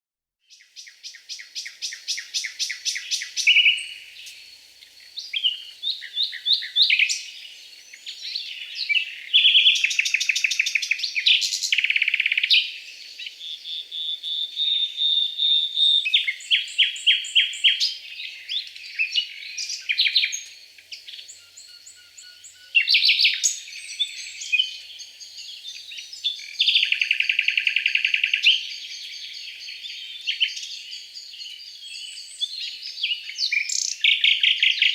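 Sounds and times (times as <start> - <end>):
songbirds singing: 0.4 - 34.9.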